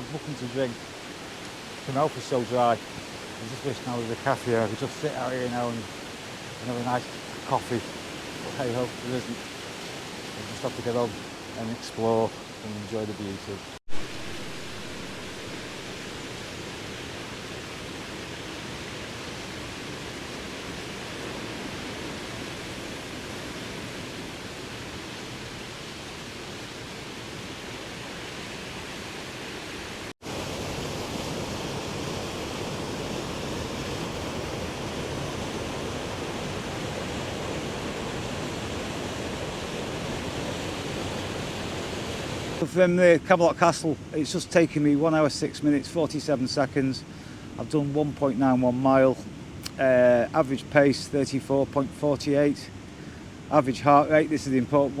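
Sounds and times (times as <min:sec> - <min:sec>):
rushing falling water: 0:00.0 - 0:55.0.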